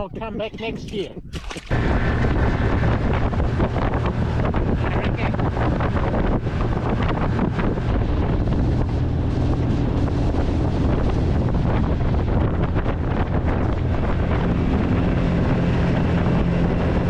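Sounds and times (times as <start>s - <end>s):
wind buffeting microphone: 0.0s - 17.0s
boat engine drone: 1.6s - 17.0s.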